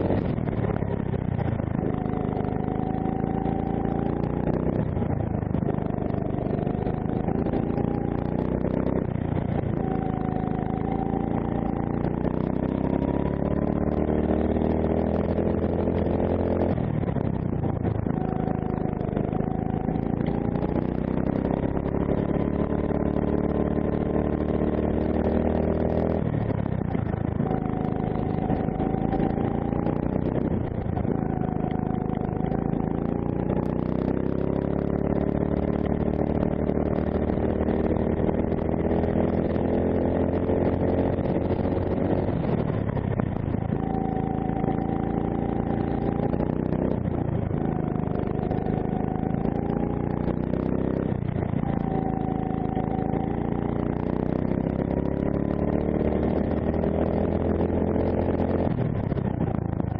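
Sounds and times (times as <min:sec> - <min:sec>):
kart engine revving: 0:00.0 - 0:17.2, 0:17.9 - 0:59.2.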